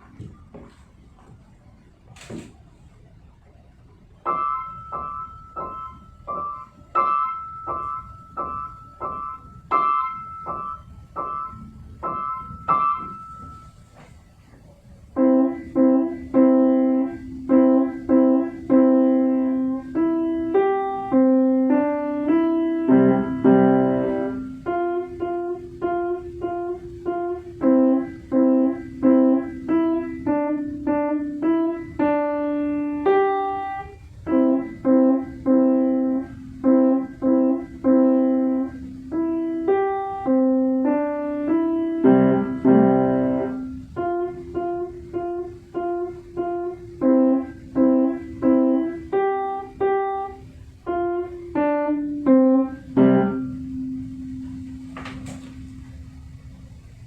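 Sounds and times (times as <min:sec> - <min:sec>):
solo piano tune: 0:03.5 - 0:57.0.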